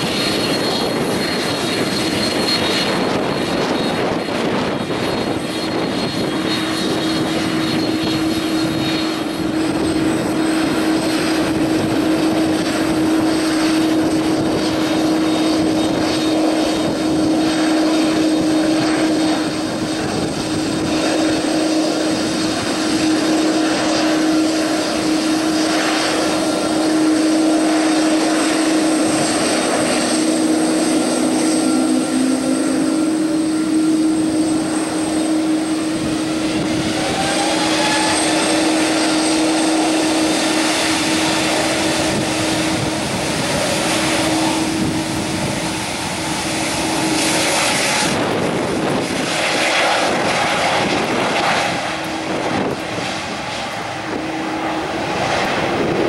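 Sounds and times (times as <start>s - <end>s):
jet engines running loudly: 0.0s - 56.0s.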